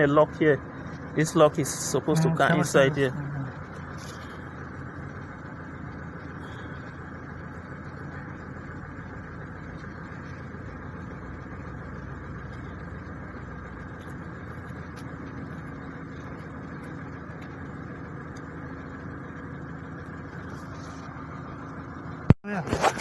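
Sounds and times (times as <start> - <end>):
engine idling hum: 0.0 - 23.0.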